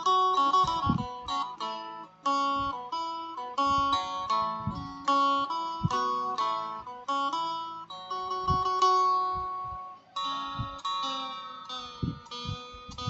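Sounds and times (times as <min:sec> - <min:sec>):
plucked lute melody over drone: 0:00.0 - 0:13.0.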